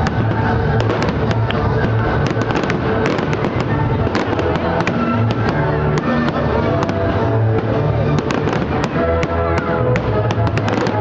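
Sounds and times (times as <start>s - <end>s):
fireworks cracking and popping: 0.0s - 11.0s
music: 0.0s - 11.0s.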